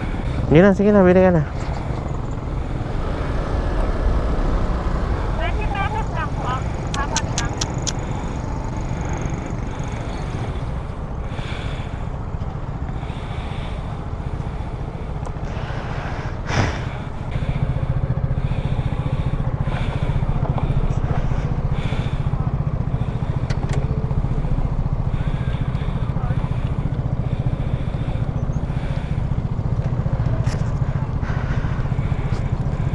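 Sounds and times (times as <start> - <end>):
motorcycle engine running: 0.0 - 32.9
road and wind noise: 0.0 - 32.9.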